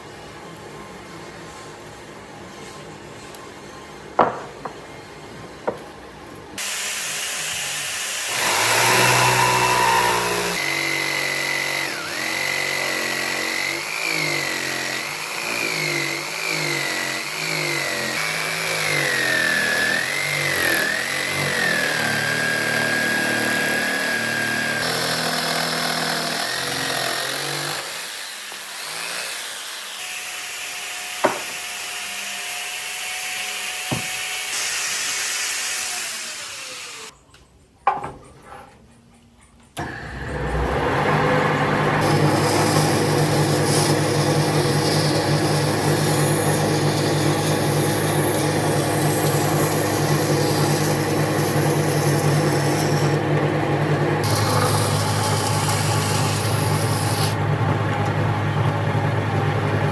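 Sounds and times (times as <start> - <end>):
power tool motor whining: 6.6 - 37.1, 39.8 - 59.9.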